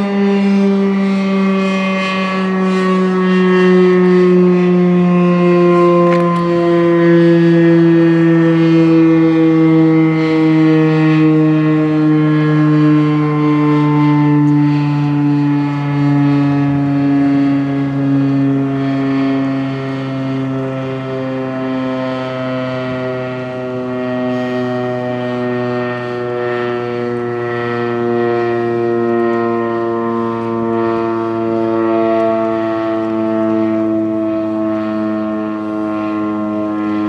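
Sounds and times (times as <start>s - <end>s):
warning siren winding down: 0.0s - 37.0s.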